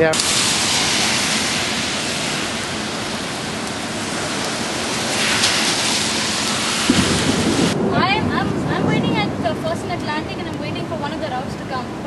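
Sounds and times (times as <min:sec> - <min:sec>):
rain hissing on wet street: 0:00.0 - 0:12.0.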